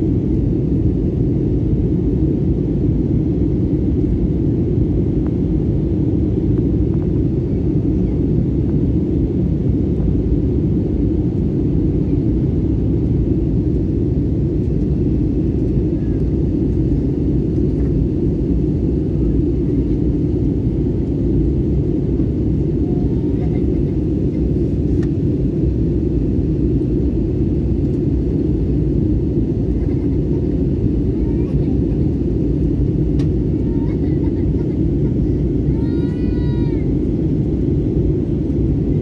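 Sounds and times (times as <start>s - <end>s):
airliner cabin rumble: 0.0s - 39.0s.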